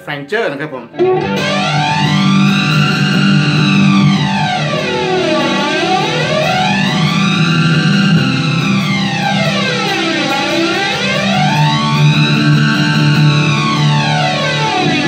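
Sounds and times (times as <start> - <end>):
electric guitar chords with modulation: 0.9 - 15.0.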